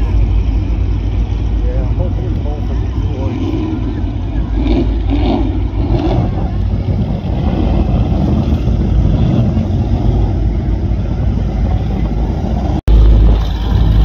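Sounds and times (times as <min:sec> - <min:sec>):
powerboat engines rumbling: 0:00.0 - 0:14.0.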